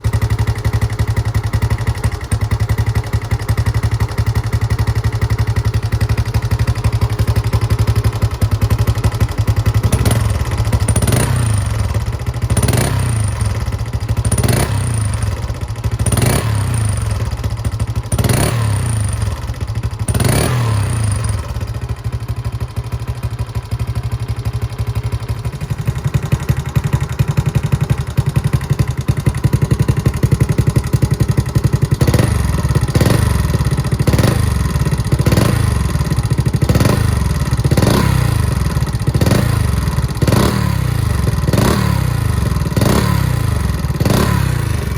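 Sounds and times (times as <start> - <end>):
motorcycle engine idling and revving: 0.0 - 44.9.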